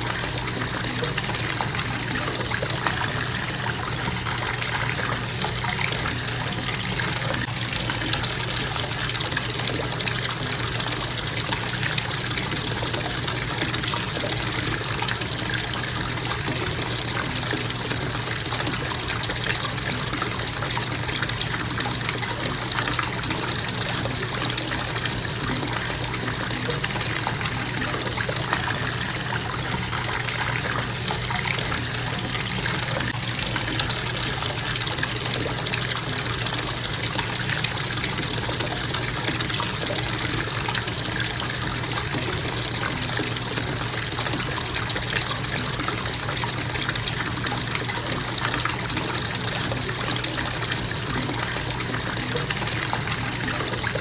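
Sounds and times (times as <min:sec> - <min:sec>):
bathtub faucet running: 0:00.0 - 0:54.0.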